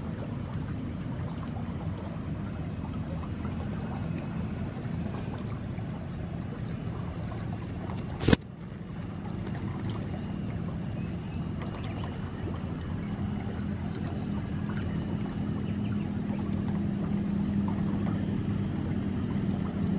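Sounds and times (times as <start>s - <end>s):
low outdoor rumble: 0.0s - 19.9s.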